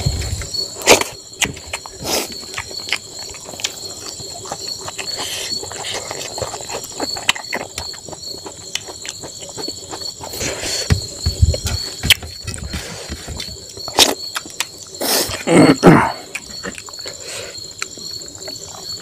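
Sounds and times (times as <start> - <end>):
insects chirping trill: 0.0 - 19.0
wet chewing and mouth smacks: 0.2 - 15.5, 16.2 - 19.0.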